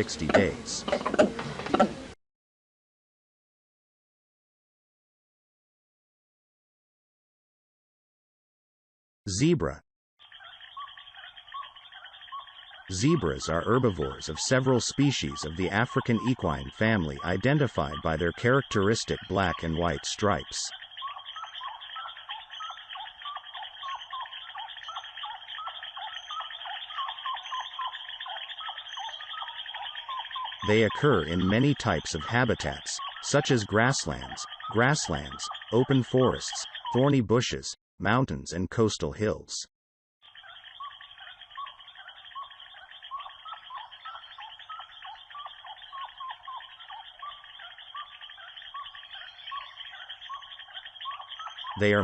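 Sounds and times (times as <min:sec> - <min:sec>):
fast-ticking wildlife chorus: 0:00.0 - 0:02.2, 0:09.3 - 0:52.0
zebras calling: 0:00.0 - 0:02.2, 0:09.3 - 0:37.7, 0:40.2 - 0:52.0.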